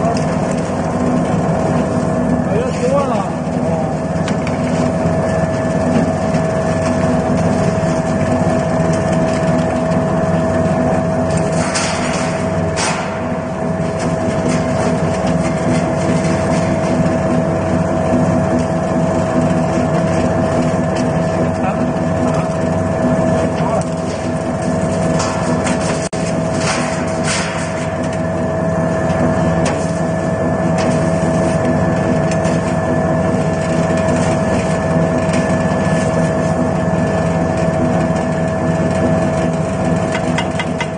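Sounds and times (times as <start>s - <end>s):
oil press machine drone and whine: 0.0s - 40.9s.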